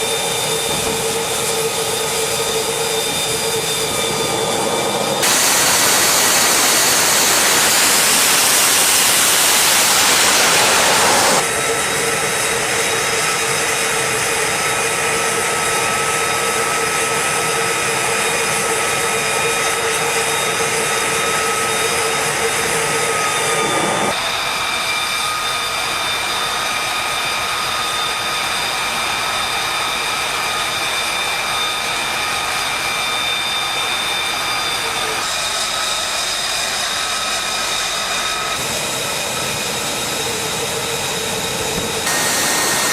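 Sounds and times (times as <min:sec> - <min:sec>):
jet engine turbine whine: 0:00.0 - 0:42.9.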